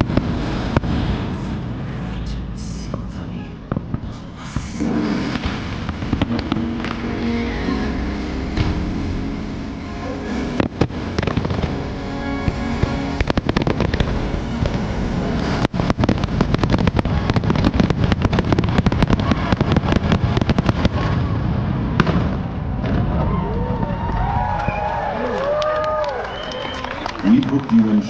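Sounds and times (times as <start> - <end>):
music soundtrack: 0.0 - 23.0
fireworks bangs and crackles: 0.0 - 28.0.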